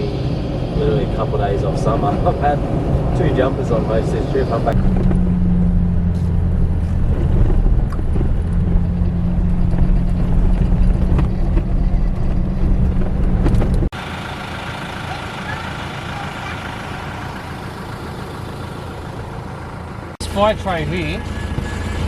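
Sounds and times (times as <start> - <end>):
engine and road drone: 0.0 - 22.0
quiet engine hum: 0.0 - 22.0.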